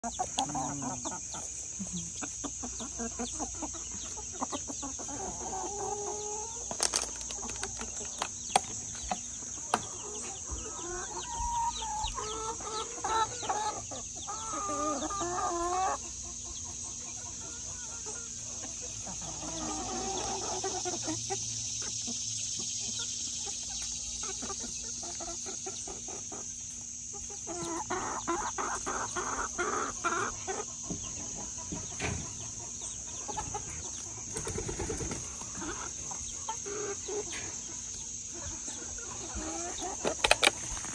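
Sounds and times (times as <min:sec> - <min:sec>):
hens clucking: 0:00.0 - 0:40.9.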